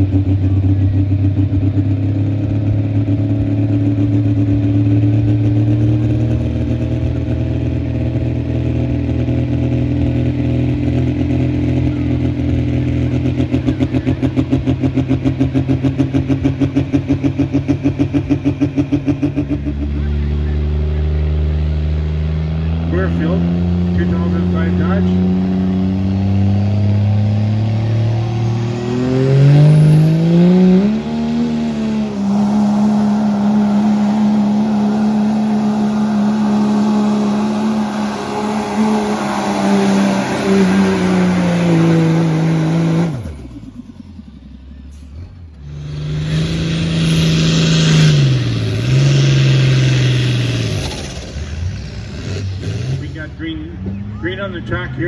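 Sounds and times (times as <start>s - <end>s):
diesel pickup engine revving: 0.0s - 55.0s
second engine at high revs: 0.0s - 55.0s.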